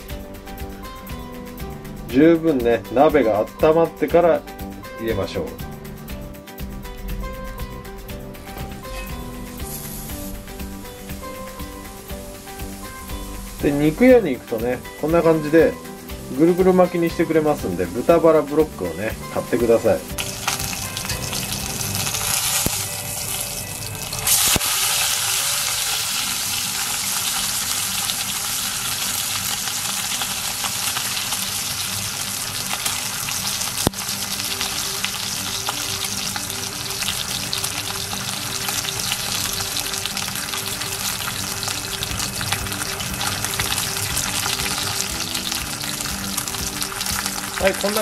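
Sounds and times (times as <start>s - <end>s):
pork sizzling in hot fat: 0.0s - 48.0s.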